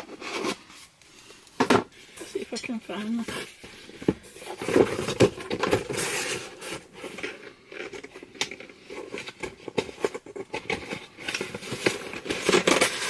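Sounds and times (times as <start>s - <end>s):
box packaging rustling: 0.0s - 13.0s.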